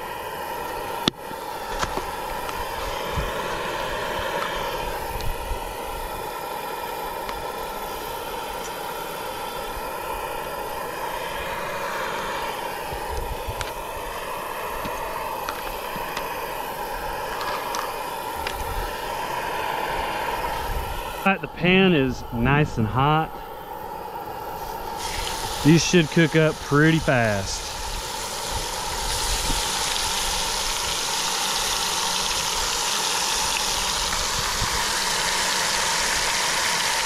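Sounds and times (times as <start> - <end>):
gas stove burner hissing: 0.0 - 37.0.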